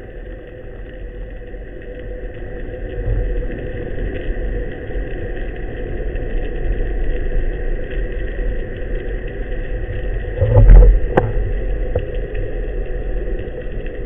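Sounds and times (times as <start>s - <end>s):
faint hum: 0.0s - 14.0s
underwater low rumble: 0.0s - 14.0s.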